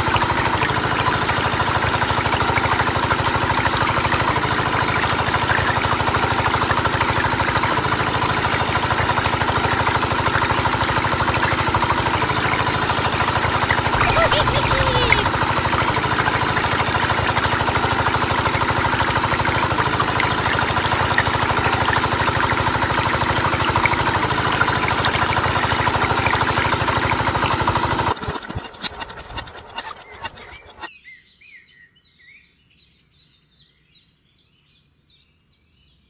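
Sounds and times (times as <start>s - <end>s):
small motor rattling: 0.0s - 30.9s.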